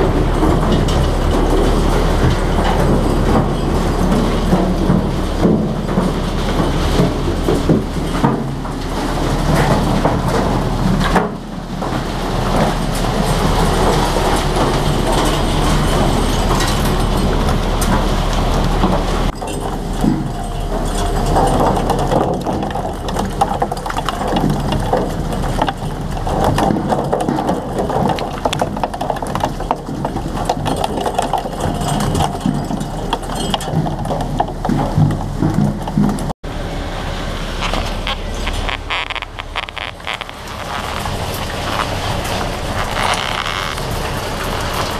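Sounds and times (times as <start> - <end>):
boat engine and deck machinery: 0.0 - 44.9
fish flapping in steel chute: 0.0 - 44.9.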